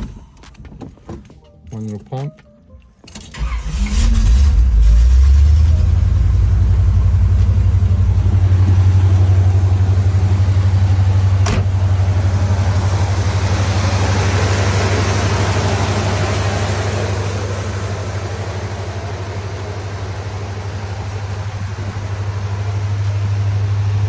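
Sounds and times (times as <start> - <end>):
car engine running steadily: 3.2 - 24.0.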